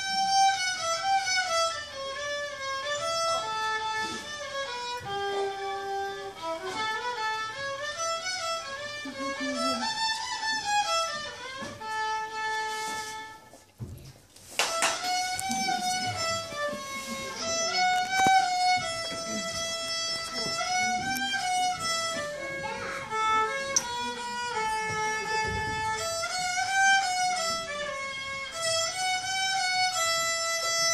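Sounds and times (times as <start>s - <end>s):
solo fiddle playing: 0.0s - 13.7s, 14.6s - 30.9s.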